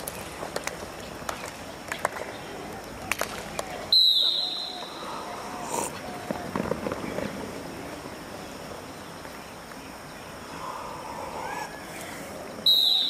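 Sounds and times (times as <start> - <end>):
steady outdoor noise: 0.0 - 13.0.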